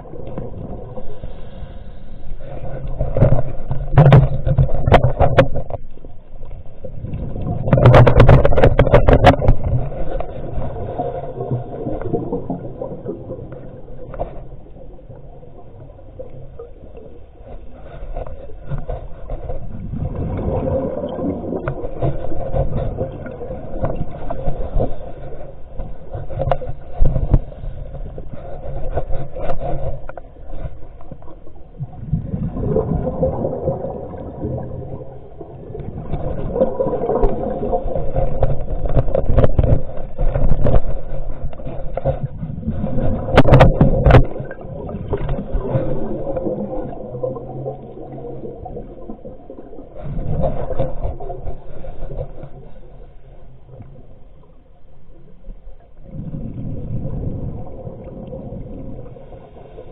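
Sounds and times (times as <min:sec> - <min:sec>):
muffled underwater rumbling: 0:00.0 - 0:59.9.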